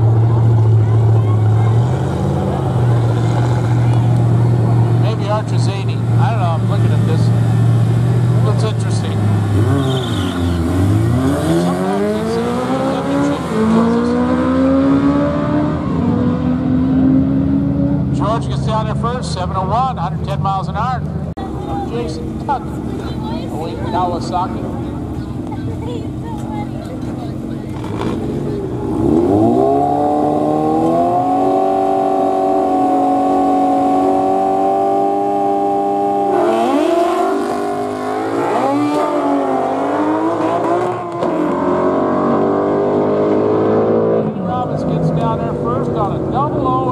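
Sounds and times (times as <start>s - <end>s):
motorcycle engines accelerating: 0.0s - 46.9s.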